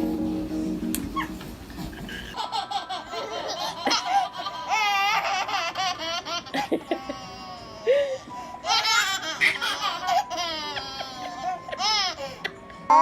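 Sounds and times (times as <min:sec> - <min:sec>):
background music: 0:00.0 - 0:13.0
baby laughing: 0:01.2 - 0:13.0.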